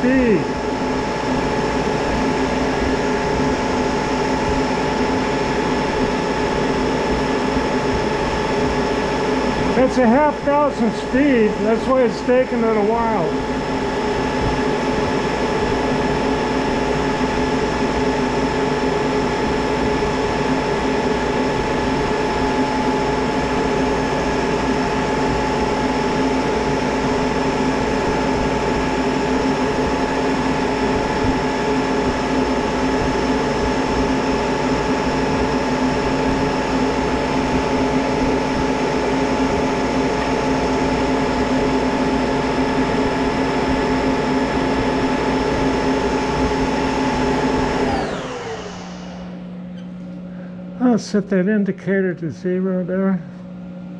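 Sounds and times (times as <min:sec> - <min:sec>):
lathe running steadily: 0:00.0 - 0:51.6.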